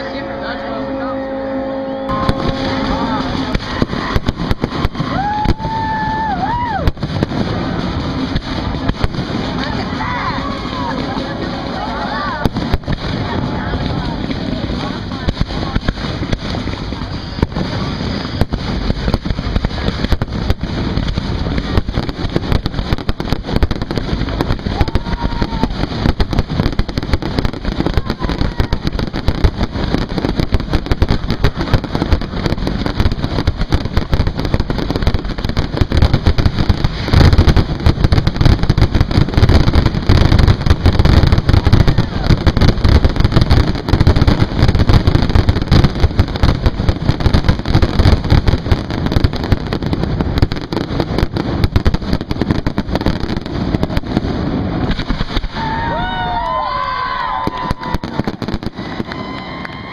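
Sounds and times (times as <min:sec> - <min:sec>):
fireworks launching and bursting: 0:00.0 - 0:59.9.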